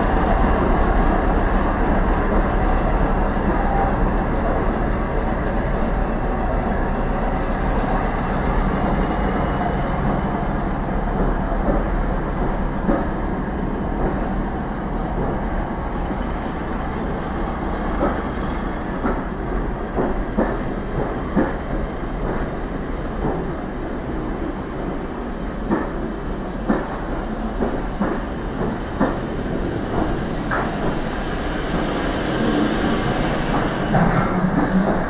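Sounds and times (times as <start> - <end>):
train coaches rumbling past: 0.0 - 35.0.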